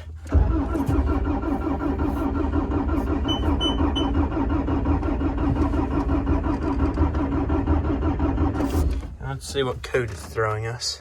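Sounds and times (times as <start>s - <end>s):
diesel engine cranking over: 0.1s - 10.5s.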